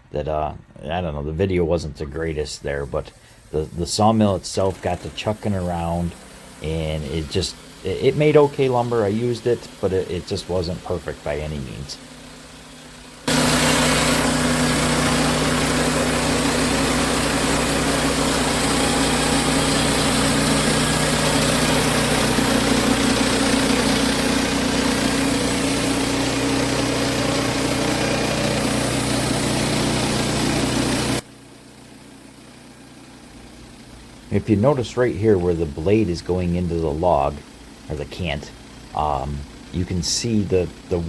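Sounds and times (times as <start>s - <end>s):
band sawmill cutting a log: 1.6s - 41.0s.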